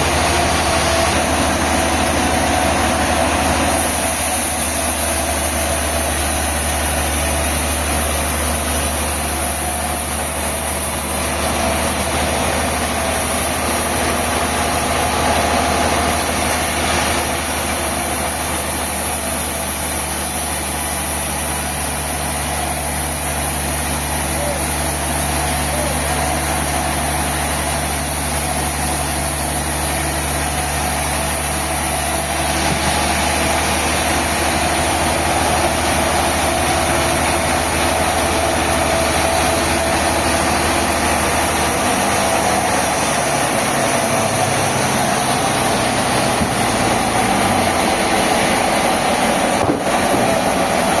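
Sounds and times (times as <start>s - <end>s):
sawmill machinery drone: 0.0s - 51.0s.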